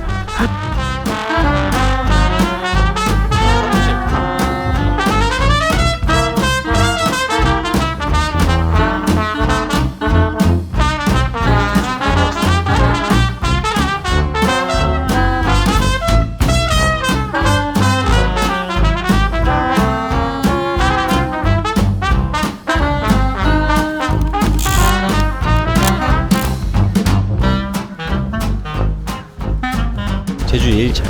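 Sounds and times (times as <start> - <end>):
swing jazz with brass horns: 0.0 - 31.0.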